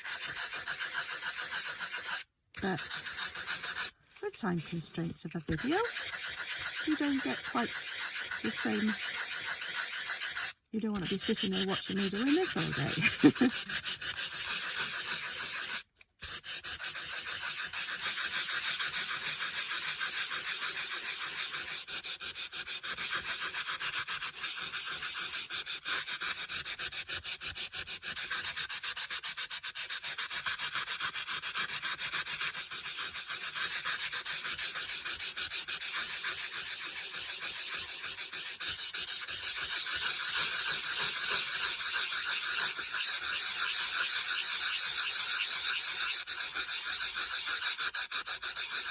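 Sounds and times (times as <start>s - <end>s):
sanding block rasping on cardstock: 0.0s - 48.9s.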